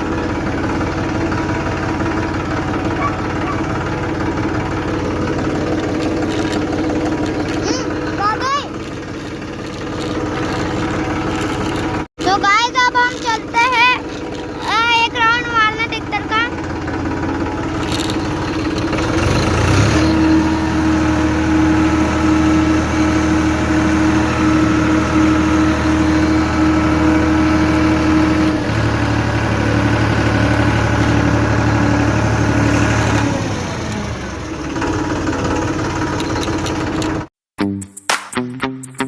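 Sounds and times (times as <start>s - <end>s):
tractor engine running: 0.0s - 37.3s.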